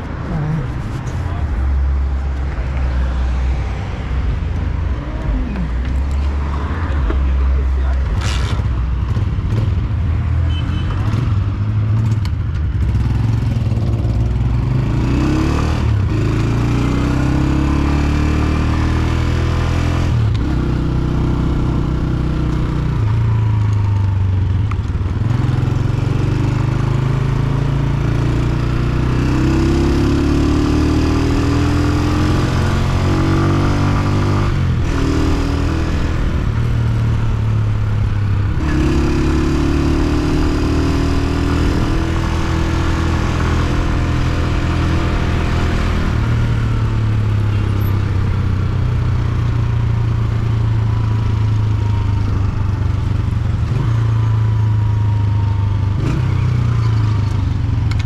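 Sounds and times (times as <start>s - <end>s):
motorcycle engine shifting gears: 10.9s - 58.0s.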